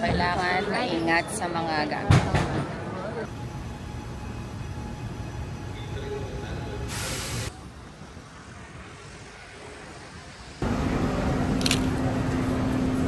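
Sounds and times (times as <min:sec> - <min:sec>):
city street traffic hum: 0:00.0 - 0:13.0.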